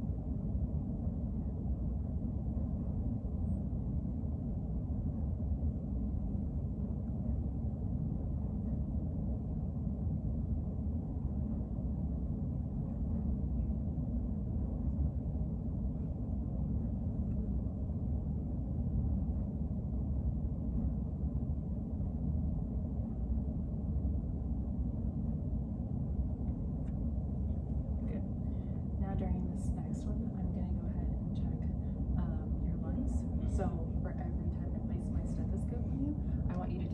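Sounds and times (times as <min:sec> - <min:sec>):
low background rumble: 0:00.0 - 0:36.9.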